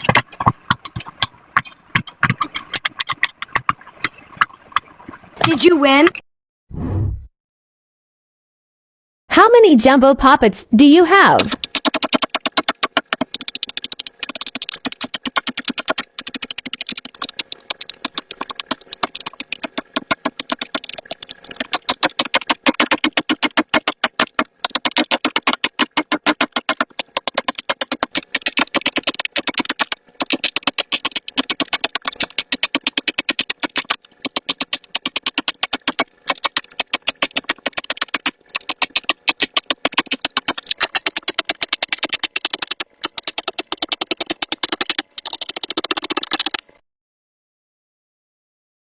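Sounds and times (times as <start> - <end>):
silicone bubbles popping: 0.0 - 5.6, 11.4 - 46.6.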